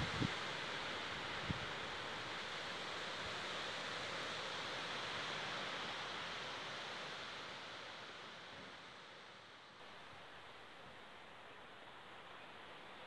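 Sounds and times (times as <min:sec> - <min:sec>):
wind rustling through leaves: 0:00.0 - 0:13.0.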